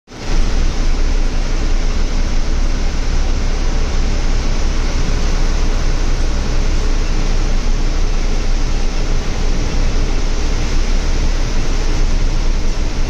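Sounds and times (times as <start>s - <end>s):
heavy rain pouring: 0.1s - 13.0s
deep low rumble: 0.4s - 13.0s.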